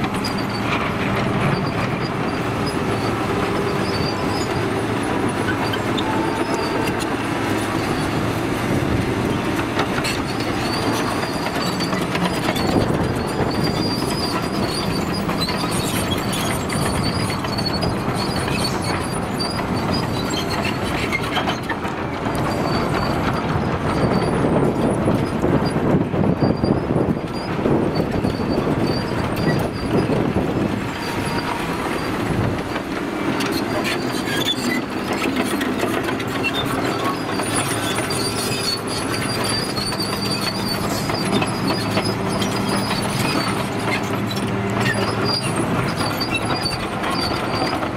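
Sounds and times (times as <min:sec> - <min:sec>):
diesel engine under load: 0:00.0 - 0:47.9
steel tracks clanking and squealing: 0:00.0 - 0:47.9.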